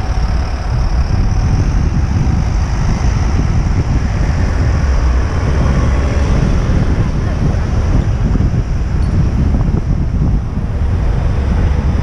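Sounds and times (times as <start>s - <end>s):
road traffic: 0.0s - 12.0s
wind rumble on microphone: 0.0s - 12.0s.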